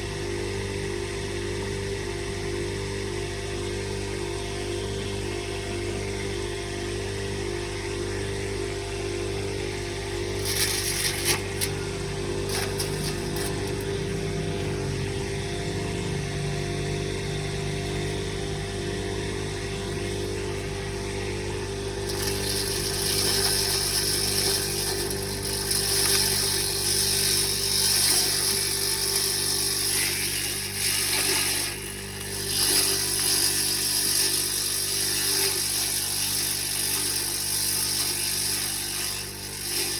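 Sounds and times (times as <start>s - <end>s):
grass chopper machine running: 0.0s - 39.9s.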